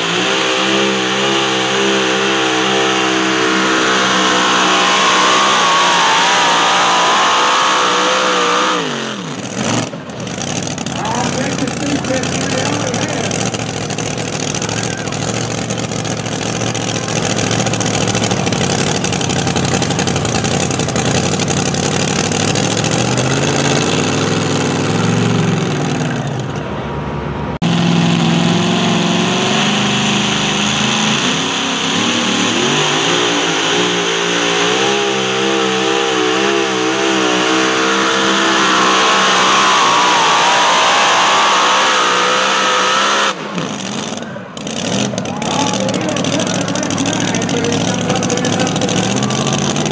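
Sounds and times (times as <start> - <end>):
loud truck engines running: 0.0 - 49.9
supercharged engine revving: 0.0 - 49.9.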